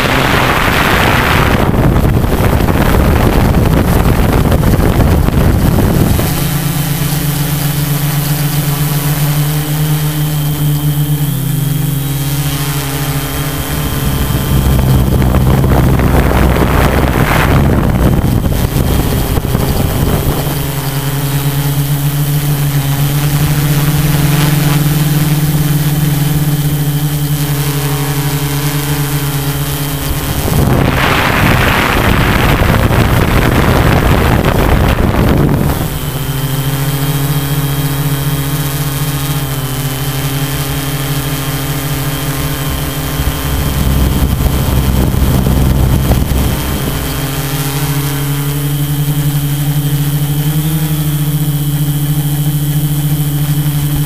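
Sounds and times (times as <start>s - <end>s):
drone motors and propellers humming: 0.0s - 54.0s
rushing wind noise: 0.0s - 54.0s.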